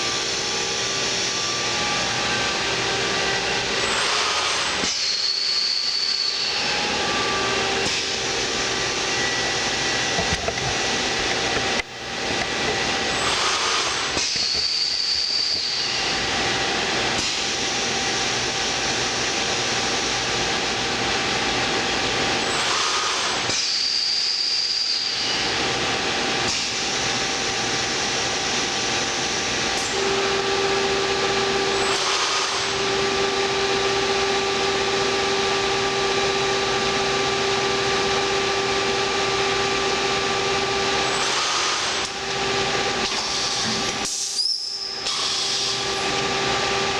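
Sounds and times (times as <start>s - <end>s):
steady hum: 0.0s - 23.6s, 25.1s - 46.9s
thermoforming machine running: 0.0s - 46.9s.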